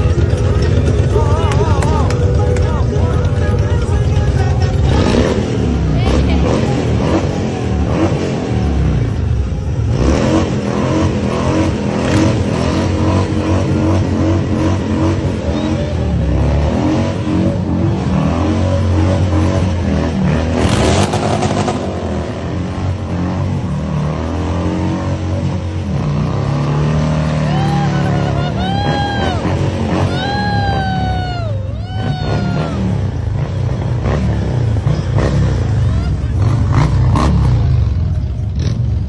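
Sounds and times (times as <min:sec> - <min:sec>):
motorcycle engine revving: 0:00.0 - 0:31.2, 0:31.9 - 0:39.0.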